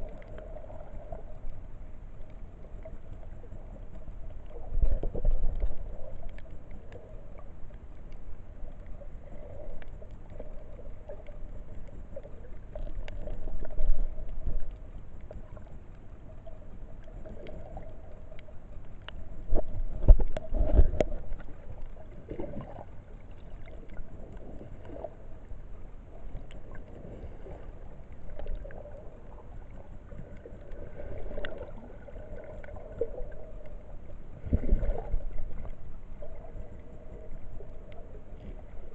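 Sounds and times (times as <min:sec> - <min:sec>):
faint steady hum: 0:00.0 - 0:38.9
water sloshing underwater: 0:00.0 - 0:38.9.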